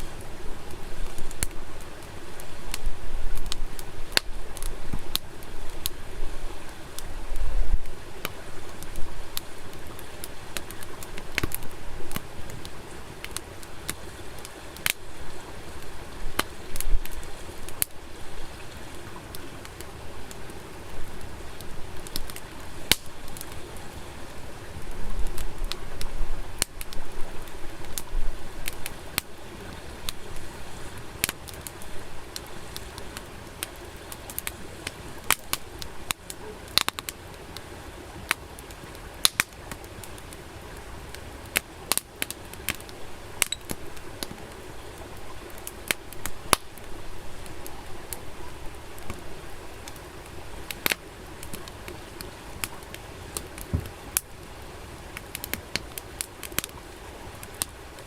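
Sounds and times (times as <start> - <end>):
fire popping and snapping: 0.0 - 24.0, 24.6 - 58.0
low hiss: 0.0 - 58.0
wood fire crackling: 0.0 - 58.0.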